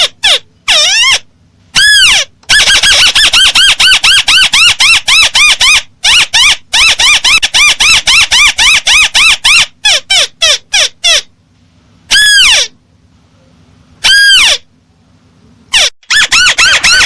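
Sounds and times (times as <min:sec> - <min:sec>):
recorded crake call: 0:00.0 - 0:11.3, 0:12.1 - 0:12.8, 0:13.4 - 0:14.7, 0:15.7 - 0:17.0.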